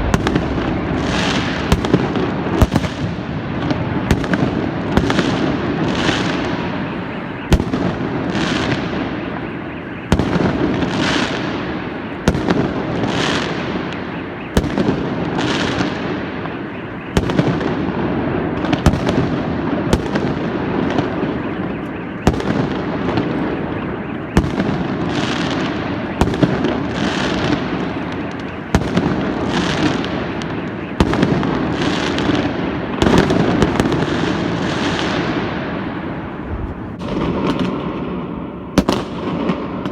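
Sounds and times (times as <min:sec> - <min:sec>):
continuous din of fireworks: 0:00.0 - 0:39.9
firework bangs with crackle: 0:00.0 - 0:39.9.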